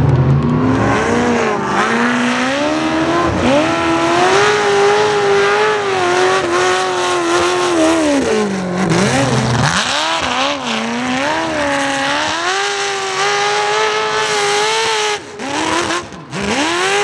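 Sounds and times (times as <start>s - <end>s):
buggy engine revving hard: 0.0s - 17.0s.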